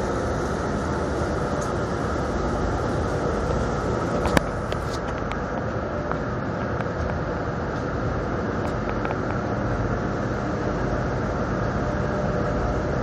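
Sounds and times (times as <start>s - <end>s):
ferry engines rumbling: 0.0s - 13.0s.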